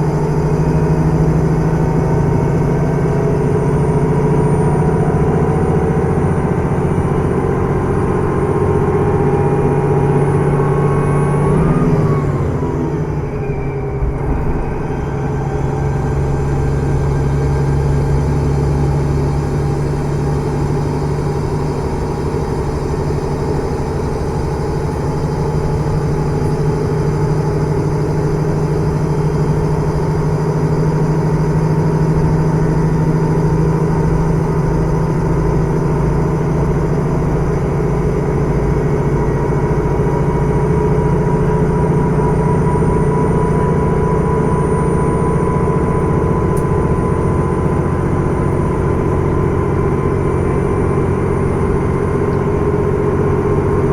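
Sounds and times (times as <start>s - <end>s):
diesel railcar engine drone: 0.0s - 53.9s.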